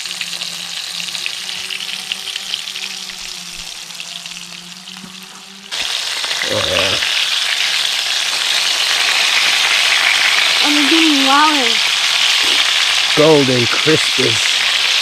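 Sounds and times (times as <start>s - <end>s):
fish deep-frying in oil: 0.0s - 15.0s.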